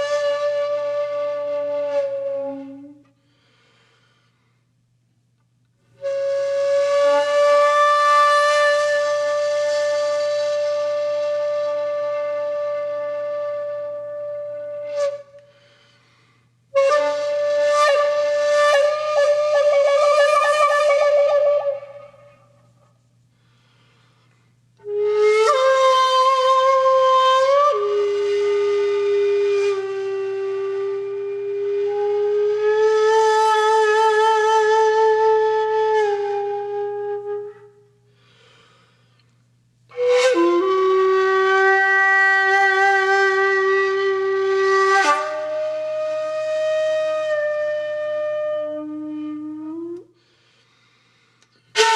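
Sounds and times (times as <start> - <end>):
solo flute-like wind instrument: 0.0 - 3.7, 5.9 - 16.0, 16.7 - 23.0, 24.8 - 38.6, 39.9 - 50.5.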